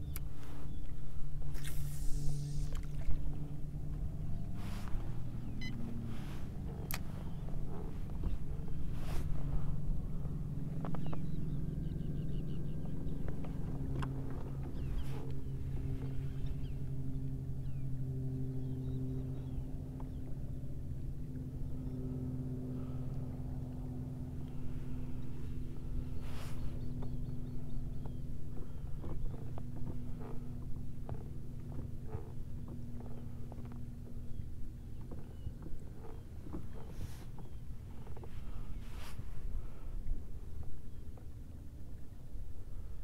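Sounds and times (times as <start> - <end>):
low motor hum: 0.0 - 43.0.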